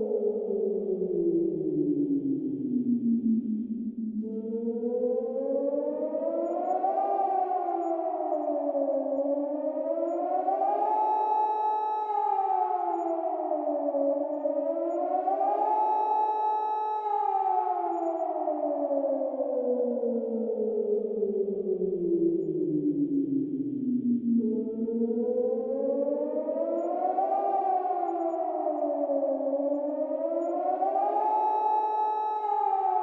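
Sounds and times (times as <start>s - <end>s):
siren wailing: 4.2s - 33.0s.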